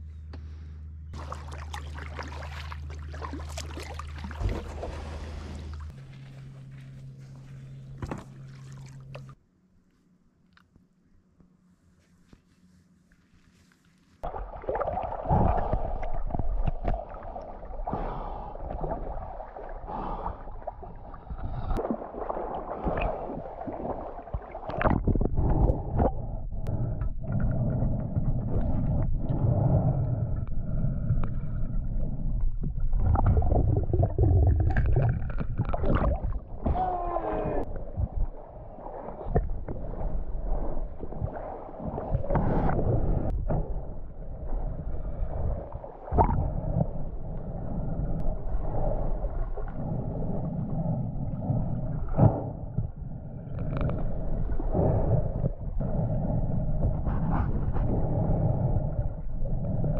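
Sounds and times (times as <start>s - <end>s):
water gurgling and sloshing: 1.0s - 10.8s, 11.6s - 59.9s.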